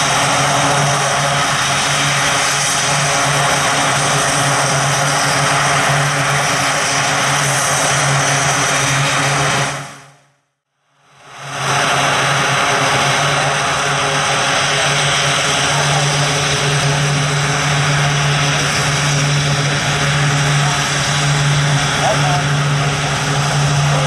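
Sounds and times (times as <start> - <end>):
turboprop engines running: 0.0 - 10.3, 10.9 - 24.0.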